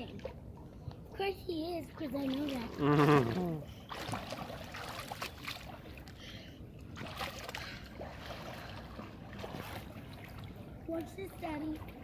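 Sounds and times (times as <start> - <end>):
pool water sloshing and lapping: 0.0 - 12.0
small irregular splashes: 1.8 - 12.0.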